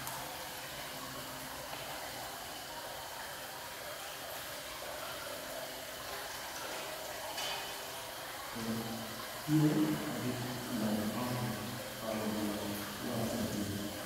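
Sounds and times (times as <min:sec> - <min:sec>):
wet watery hiss: 0:00.0 - 0:14.0.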